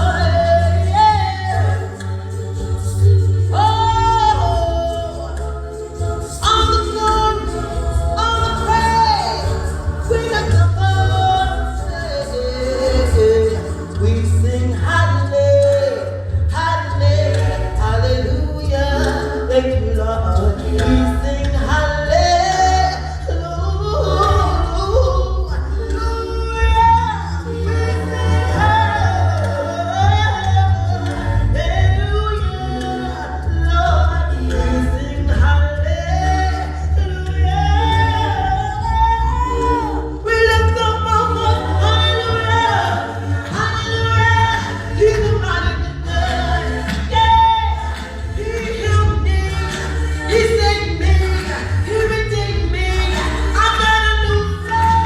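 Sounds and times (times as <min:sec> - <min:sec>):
choir singing: 0:00.0 - 0:55.0
instrumental backing with deep bass: 0:00.0 - 0:55.0
lead singer: 0:00.0 - 0:55.0.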